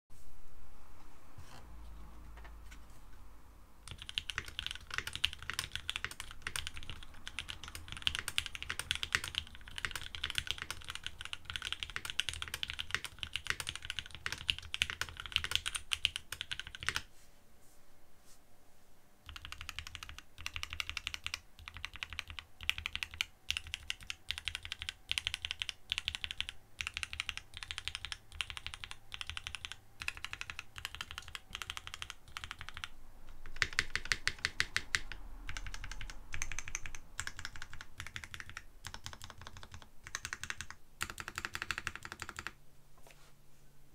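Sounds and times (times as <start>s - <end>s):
mechanical keyboard typing: 3.8s - 17.1s, 19.3s - 42.6s.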